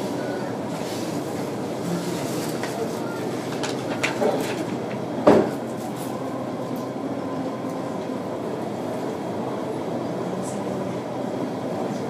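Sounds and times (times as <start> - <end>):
distant rail and city traffic: 0.0 - 12.0.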